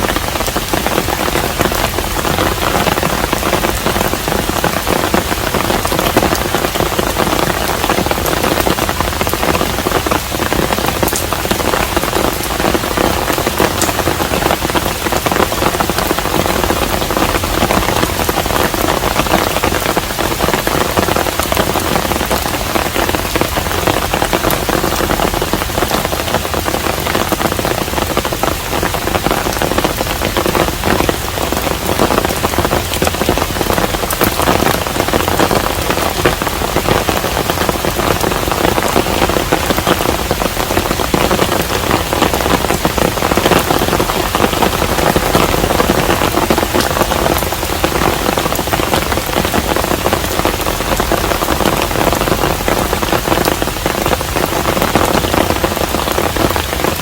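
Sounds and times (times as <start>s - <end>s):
close raindrop hits: 0.0s - 57.0s
steady rain on house: 0.0s - 57.0s.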